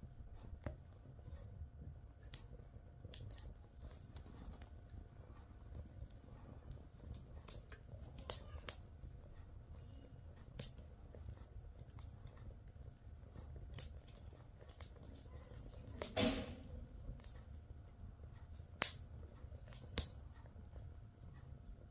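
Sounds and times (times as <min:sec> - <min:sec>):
faint low rumble: 0:00.0 - 0:21.9
wood fire crackling: 0:00.0 - 0:21.9.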